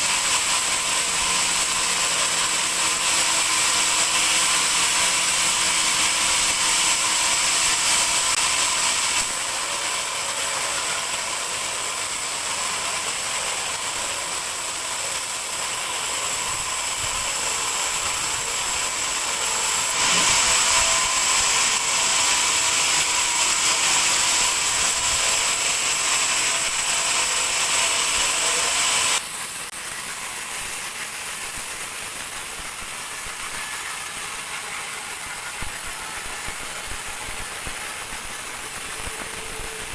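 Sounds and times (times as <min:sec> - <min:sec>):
band saw cutting log with whine: 0:00.0 - 0:39.9.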